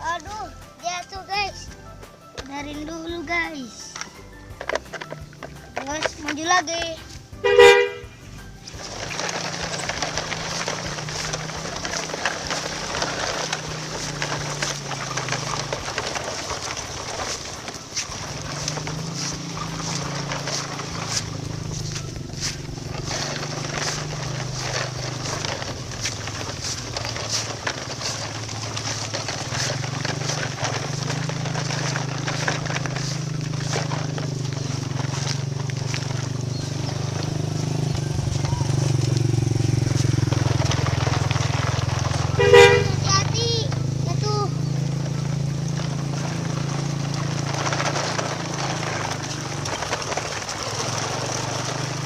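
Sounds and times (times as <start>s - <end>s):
toy truck rattling and clicking: 2.4s - 7.8s, 8.4s - 52.0s.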